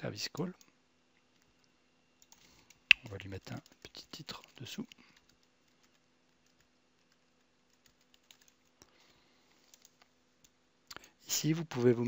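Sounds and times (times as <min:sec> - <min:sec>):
faint keyboard typing: 0:00.2 - 0:12.0.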